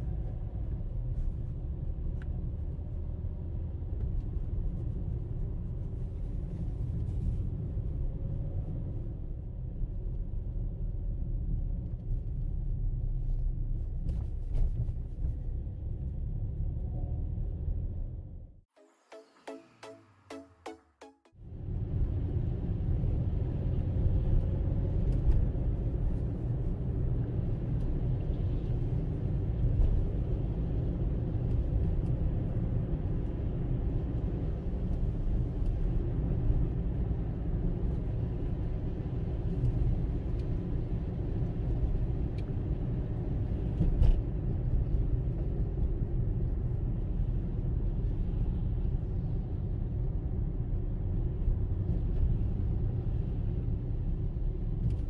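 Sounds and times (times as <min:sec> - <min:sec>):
car driving on road: 0:00.0 - 0:18.6, 0:21.4 - 0:55.0.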